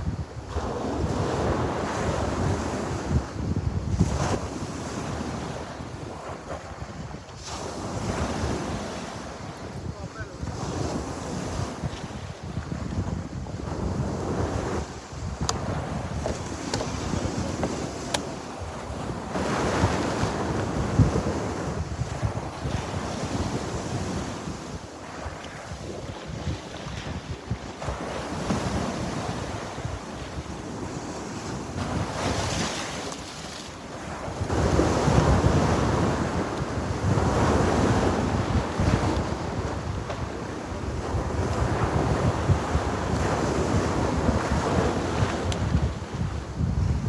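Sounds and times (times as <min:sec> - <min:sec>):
sea waves breaking on shore: 0:00.0 - 0:47.0
wind buffeting microphone: 0:00.0 - 0:47.0.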